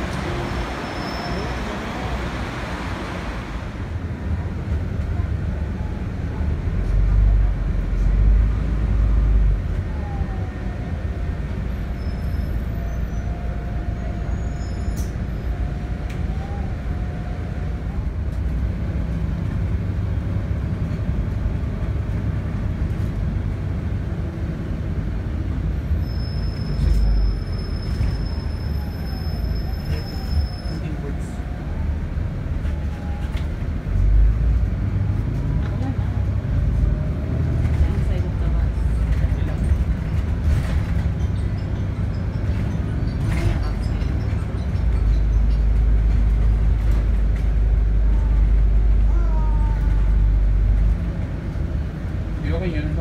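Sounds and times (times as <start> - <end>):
bus engine and cabin rumble: 0.0 - 53.0.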